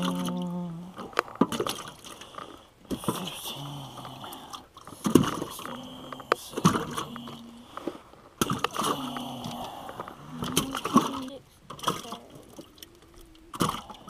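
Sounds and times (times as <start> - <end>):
fish slapping and splashing in water: 0.0 - 7.8, 8.4 - 14.0.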